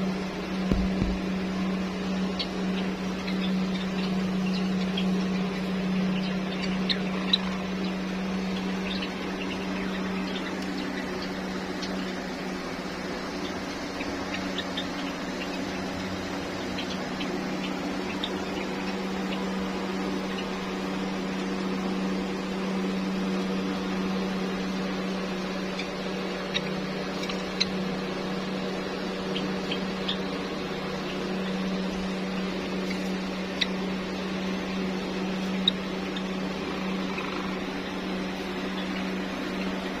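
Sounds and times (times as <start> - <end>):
electric motor hum: 0.0 - 40.0.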